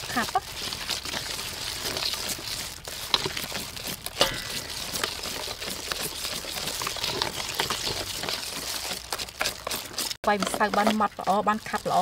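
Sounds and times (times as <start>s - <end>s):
whisk scraping batter: 0.0s - 12.0s.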